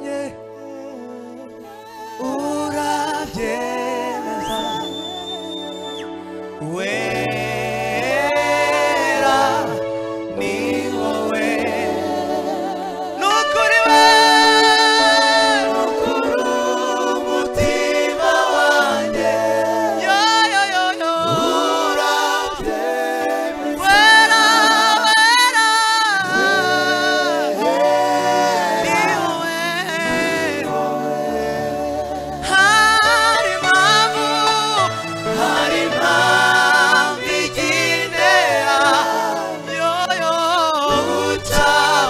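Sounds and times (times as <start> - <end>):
man singing lead: 0.0 - 42.0
men singing in harmony: 0.0 - 42.0.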